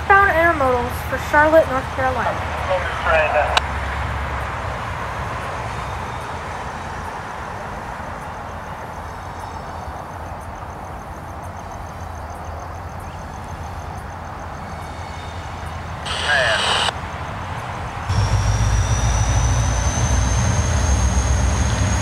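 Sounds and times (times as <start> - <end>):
diesel locomotives rumbling: 0.0 - 10.8, 13.2 - 22.0.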